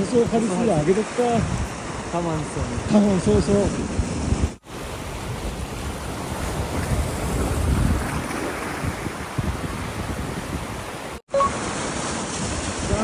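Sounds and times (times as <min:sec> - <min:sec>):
sea surf against rocks: 0:00.0 - 0:13.0
wind buffeting microphone: 0:00.0 - 0:13.0.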